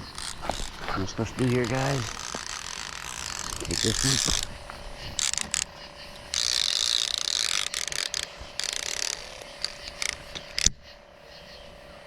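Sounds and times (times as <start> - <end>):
fishing reel clicker ratcheting: 0.0 - 4.6, 5.2 - 10.8.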